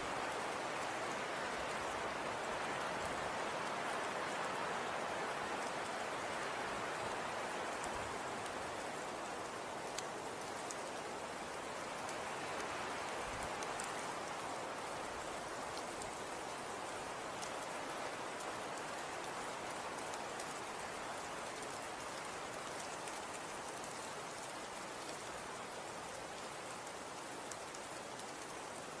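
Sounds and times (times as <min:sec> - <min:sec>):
falling snow hiss: 0:00.0 - 0:29.0
faint light ticks: 0:05.6 - 0:29.0.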